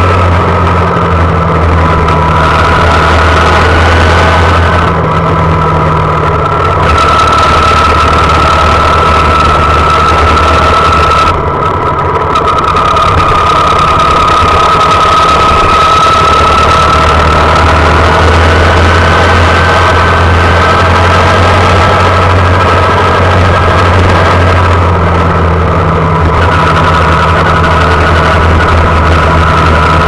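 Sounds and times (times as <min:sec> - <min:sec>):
small motorcycle engine running: 0:00.0 - 0:30.0.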